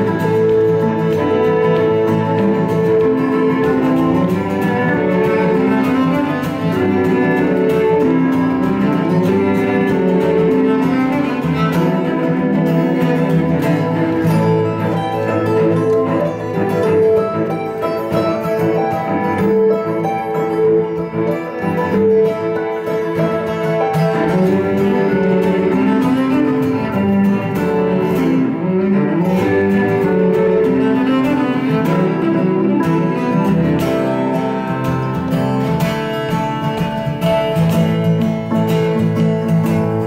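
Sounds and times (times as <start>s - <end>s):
cello: 0.0s - 40.0s
fiddle: 0.0s - 40.0s
guitar accompaniment: 0.0s - 40.0s
harp: 0.0s - 40.0s.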